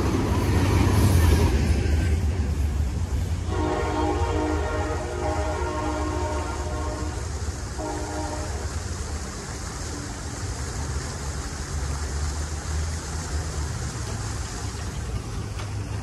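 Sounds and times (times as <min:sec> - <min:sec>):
passenger train rumbling away: 0:00.0 - 0:16.0.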